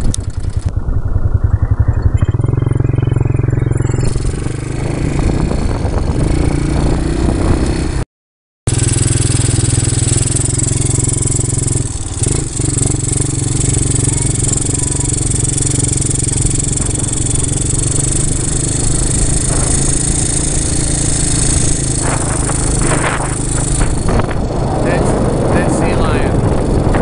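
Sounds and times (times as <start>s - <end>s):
quad bike engine: 0.0s - 8.0s, 8.7s - 27.0s.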